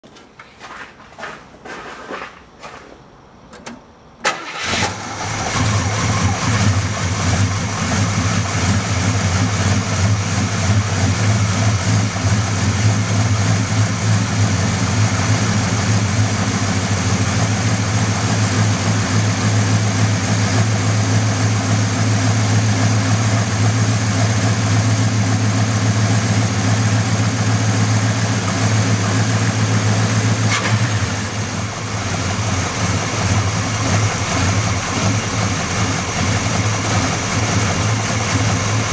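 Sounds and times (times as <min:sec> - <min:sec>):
engine running with knock: 0:05.4 - 0:38.9.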